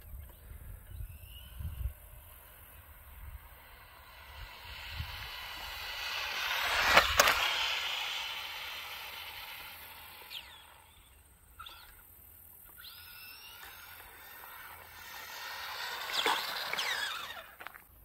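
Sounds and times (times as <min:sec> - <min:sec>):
rc car motor and tyres hissing: 0:00.0 - 0:18.0.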